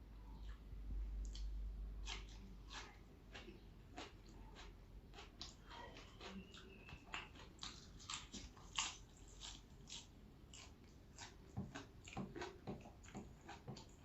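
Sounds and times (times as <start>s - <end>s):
person chewing crunchy food: 0.3s - 14.0s.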